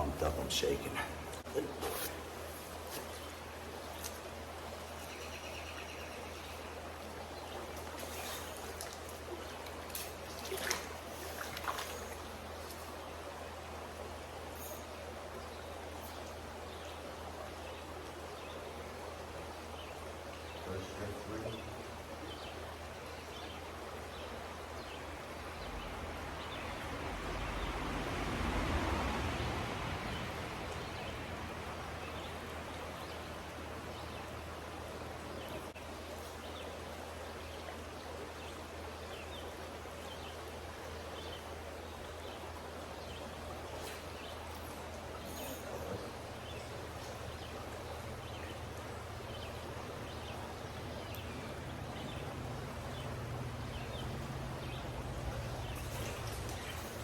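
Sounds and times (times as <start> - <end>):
creek water rushing over riffles: 0.0 - 57.0.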